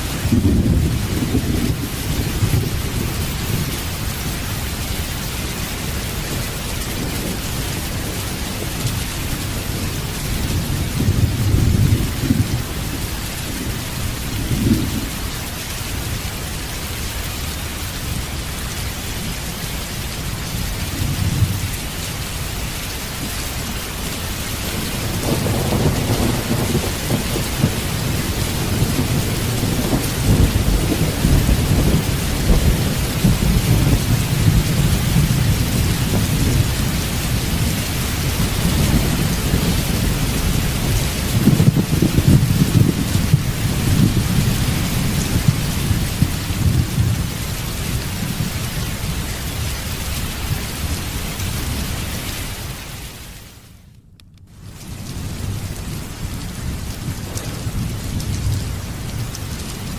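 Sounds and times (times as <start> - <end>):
rolling thunder rumbles: 0.0 - 53.2, 54.5 - 59.9
heavy rain: 0.0 - 59.9.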